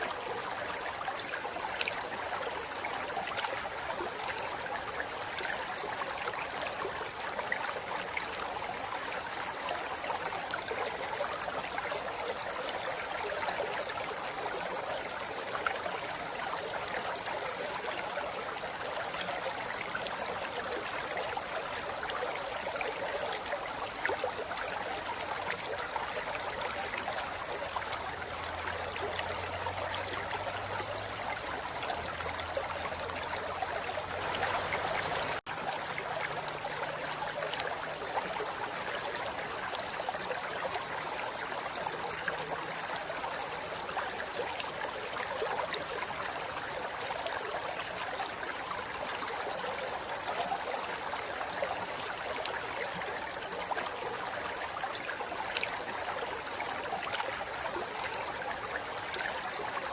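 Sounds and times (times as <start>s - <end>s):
river water flowing over rocks: 0.0s - 59.9s.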